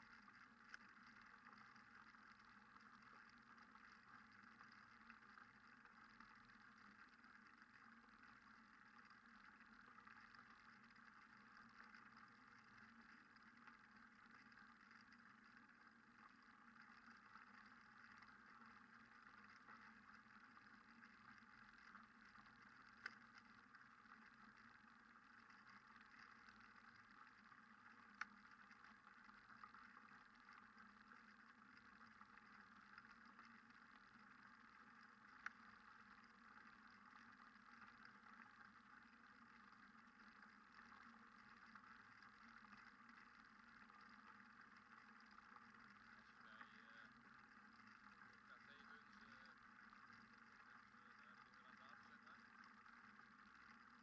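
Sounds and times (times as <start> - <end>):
faint clicks: 0.0 - 54.0
faint steady hiss: 0.0 - 54.0.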